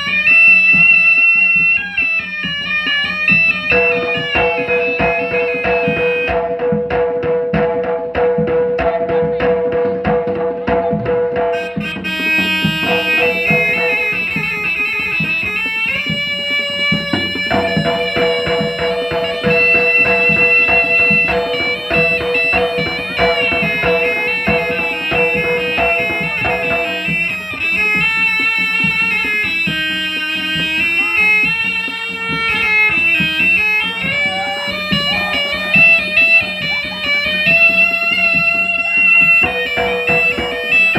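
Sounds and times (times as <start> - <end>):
reed pipe melody: 0.0 - 8.1, 10.9 - 40.9
hand drum strokes: 0.0 - 40.9.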